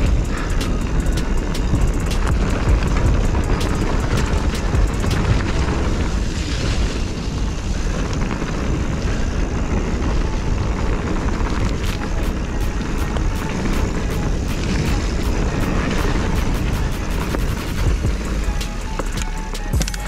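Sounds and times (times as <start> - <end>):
bike clicks and rattles: 0.0 - 20.0
bike tyre noise: 0.0 - 20.0
wind rumbling on microphone: 0.0 - 20.0.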